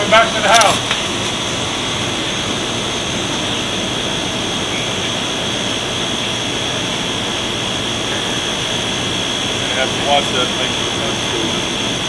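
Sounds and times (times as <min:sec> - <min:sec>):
crane engine and hydraulics: 0:00.0 - 0:12.0
steady high whine: 0:00.0 - 0:12.0.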